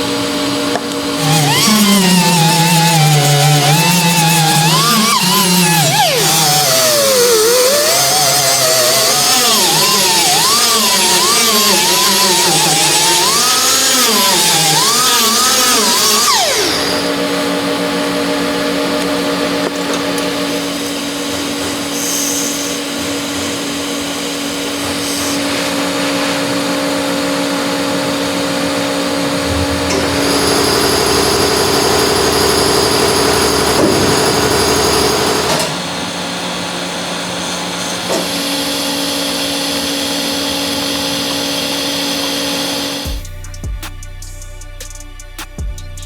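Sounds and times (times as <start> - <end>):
electric power tool motor humming: 0.0 - 43.2.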